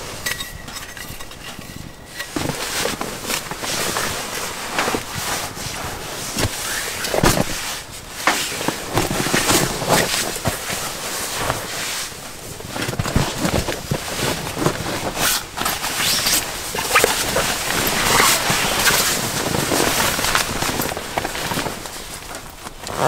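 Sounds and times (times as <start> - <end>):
clothing and sleeping bag rustling: 1.3 - 23.0.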